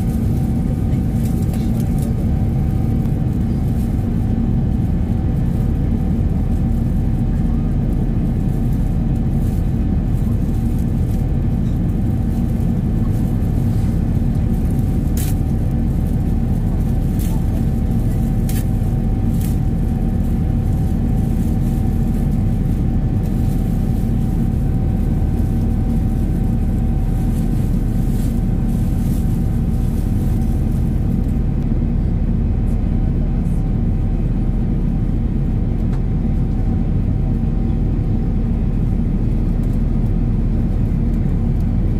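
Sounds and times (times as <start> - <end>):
jet engine rumble: 0.0 - 41.9.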